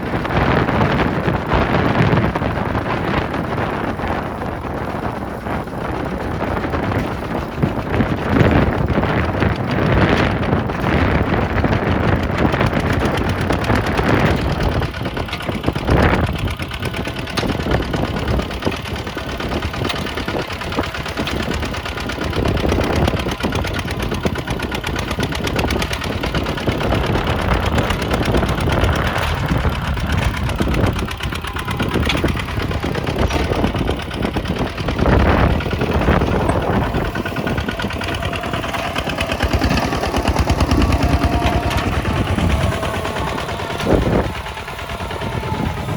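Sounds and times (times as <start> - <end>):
tractor diesel engine knocking: 0.0 - 45.9.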